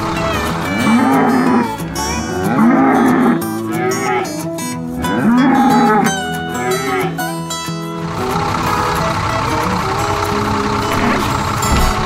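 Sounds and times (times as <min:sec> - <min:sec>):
cows mooing: 0:00.0 - 0:07.5, 0:08.1 - 0:12.0
background music: 0:00.0 - 0:12.0.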